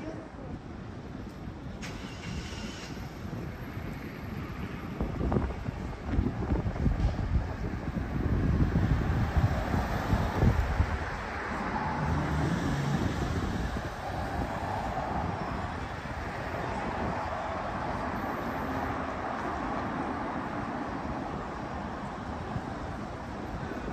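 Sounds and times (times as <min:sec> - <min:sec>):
city traffic rumble: 0:00.0 - 0:23.9.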